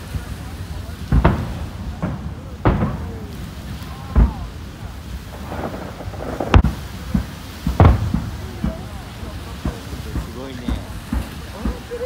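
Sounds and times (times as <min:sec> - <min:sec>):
firework shells bursting: 0:00.1 - 0:12.0.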